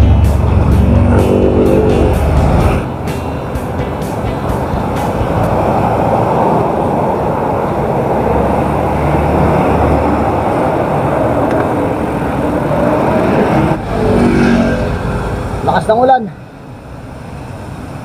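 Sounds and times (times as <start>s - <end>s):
deep rumble: 0.0s - 15.7s
wind rushing: 0.0s - 15.8s
wet road noise: 0.0s - 18.0s.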